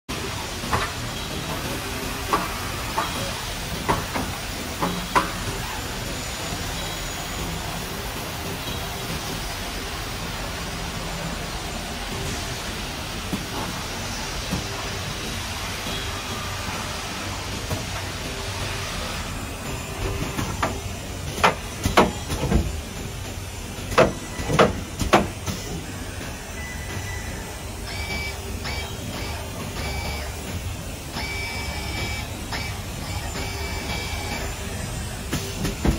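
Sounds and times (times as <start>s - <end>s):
machine running with mechanical hiss: 0.1s - 35.9s.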